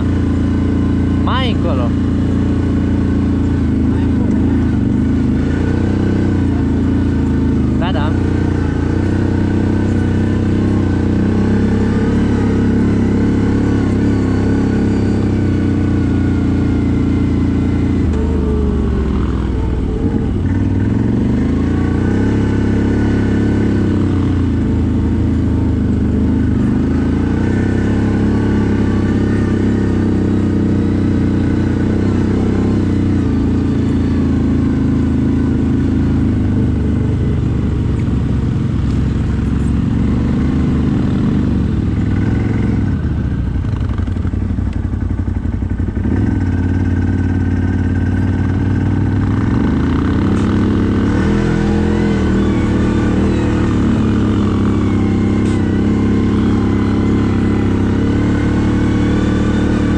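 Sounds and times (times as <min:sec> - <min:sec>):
atv engine revving while riding: 0:00.0 - 0:59.9.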